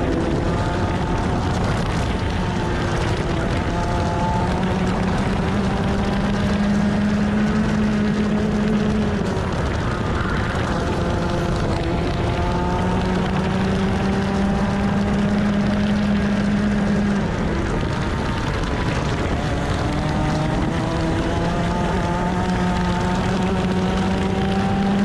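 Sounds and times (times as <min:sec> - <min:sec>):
kart engine at high revs: 0:00.0 - 0:25.0
wind rush on microphone: 0:00.0 - 0:25.0.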